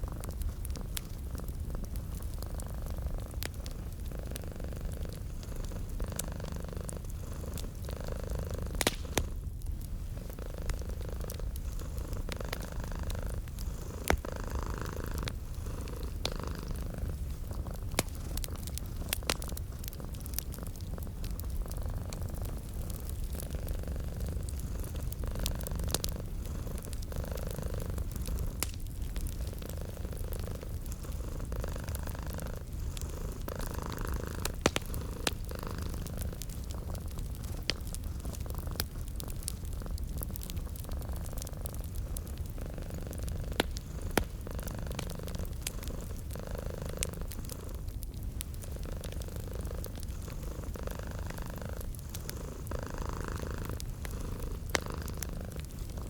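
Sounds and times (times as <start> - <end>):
fireplace pops and crackles: 0.0 - 4.4, 8.6 - 56.0
cat purring: 0.0 - 56.0.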